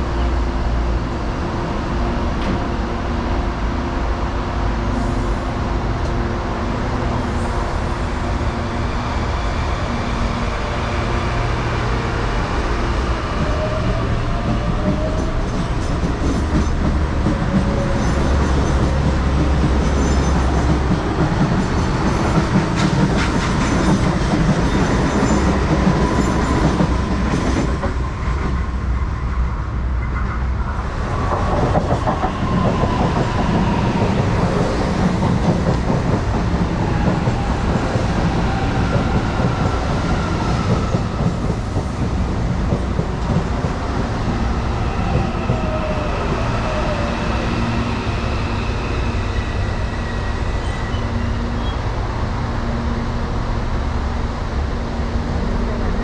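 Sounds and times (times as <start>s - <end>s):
heavy train rumble: 0.0s - 56.0s.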